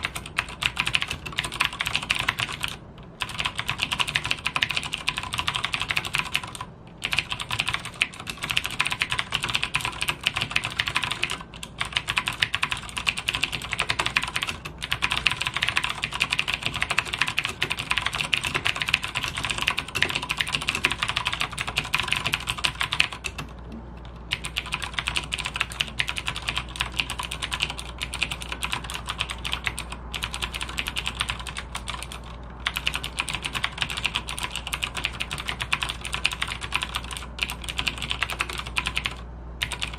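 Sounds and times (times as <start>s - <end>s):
clicky mechanical keyboard typing: 0.0s - 39.9s.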